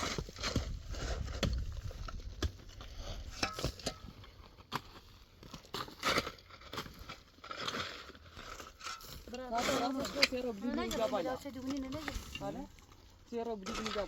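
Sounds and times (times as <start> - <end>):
stones and gravel crunching: 0.0 - 14.0.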